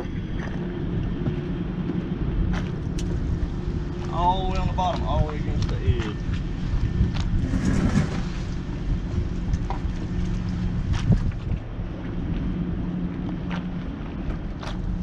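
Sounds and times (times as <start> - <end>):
faint steady hum: 0.0 - 15.0
wind buffeting microphone: 0.0 - 15.0.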